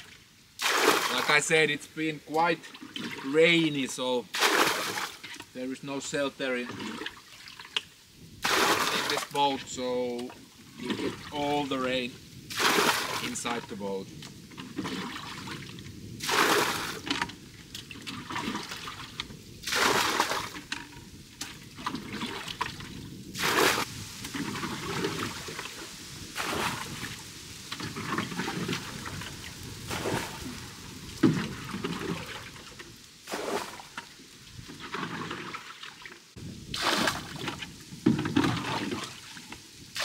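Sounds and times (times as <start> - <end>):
water splashing out of a boat: 0.0 - 40.0
water trickling and dripping: 0.0 - 40.0.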